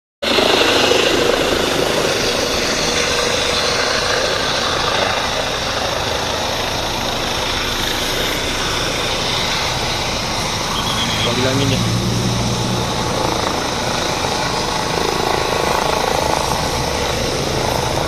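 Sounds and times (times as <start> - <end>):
helicopter rotor and turbine: 0.2 - 18.0.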